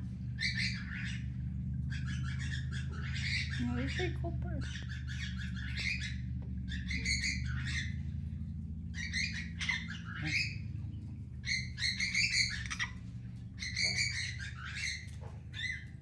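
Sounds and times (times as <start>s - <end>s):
steady low hum: 0.0s - 16.0s
macaw squawking: 0.3s - 1.3s, 1.9s - 8.0s, 8.9s - 10.8s, 11.4s - 16.0s.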